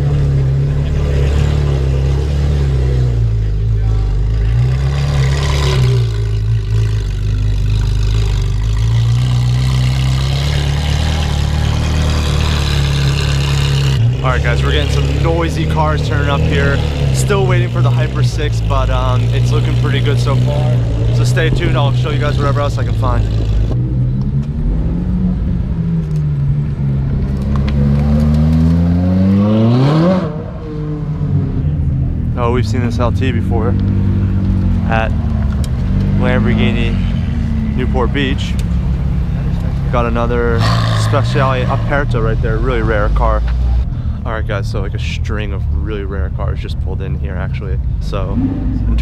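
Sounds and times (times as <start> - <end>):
car engines rumbling: 0.0 - 49.0.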